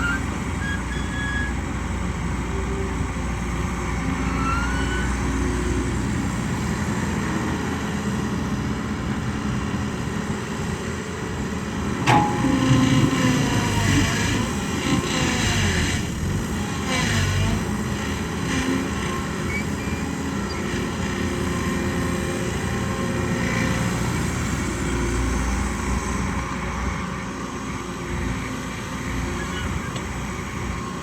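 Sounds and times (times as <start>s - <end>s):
excavator diesel engine running: 5.0s - 31.0s.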